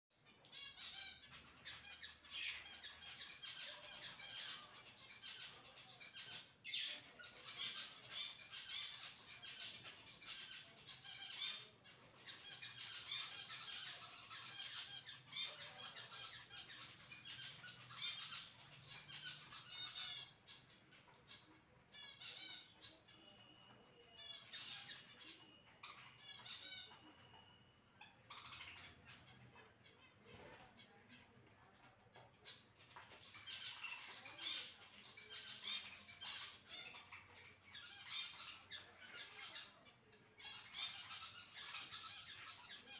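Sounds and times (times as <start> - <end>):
budgerigars chattering and chirping: 0.2 - 42.9.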